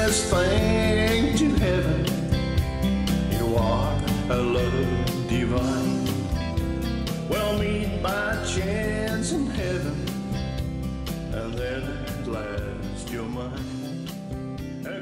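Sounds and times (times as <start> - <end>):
country song with singing: 0.0 - 15.0.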